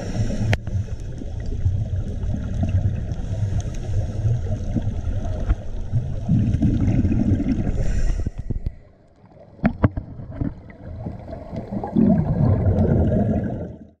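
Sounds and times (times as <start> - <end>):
underwater breath bubbling: 0.0 - 9.0, 10.3 - 13.9.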